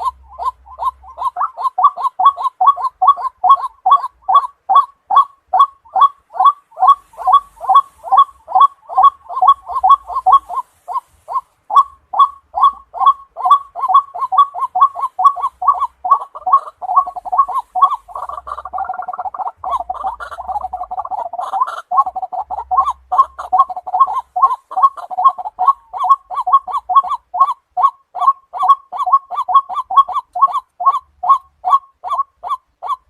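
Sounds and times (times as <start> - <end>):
waterhen repeated calls: 0.0 - 33.0.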